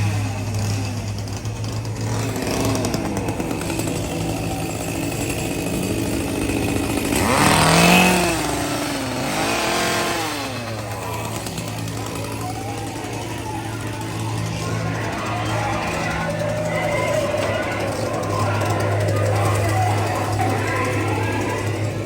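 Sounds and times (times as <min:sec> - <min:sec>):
motor-like drone: 0:00.0 - 0:22.0.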